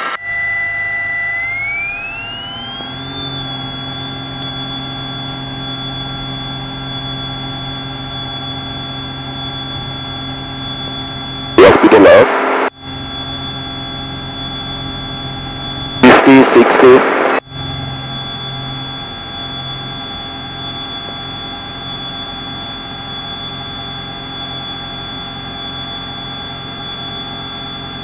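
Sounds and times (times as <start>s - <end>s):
aircraft engine and propeller drone: 0.2s - 28.0s.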